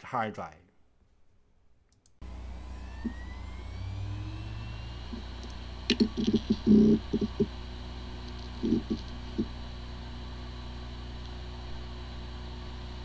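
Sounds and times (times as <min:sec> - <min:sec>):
hard drive seek chatter: 0:02.2 - 0:13.0
hard drive spindle hum: 0:02.2 - 0:13.0.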